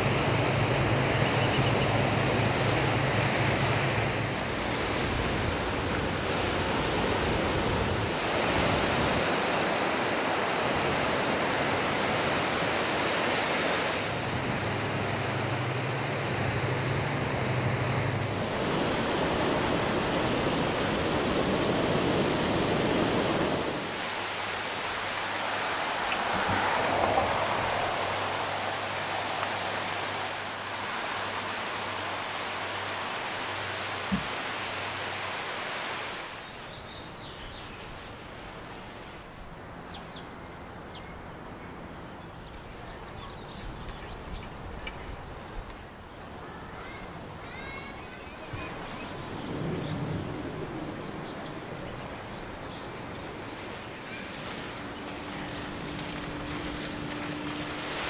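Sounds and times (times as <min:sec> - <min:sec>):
wind and surf rushing: 0:00.0 - 0:42.4, 0:43.6 - 0:58.0
river water rushing: 0:00.0 - 0:43.7, 0:46.0 - 0:58.0.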